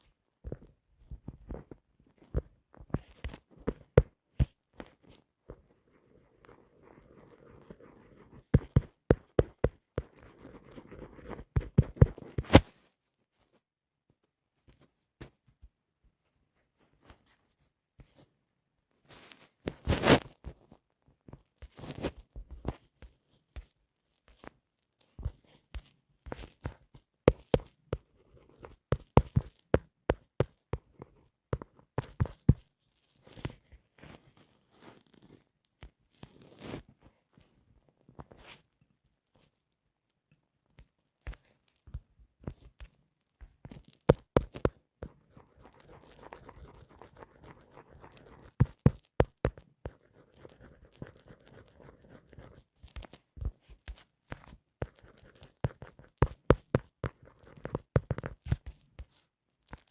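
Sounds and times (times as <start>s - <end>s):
faint rustling and scratching: 0.0s - 59.9s.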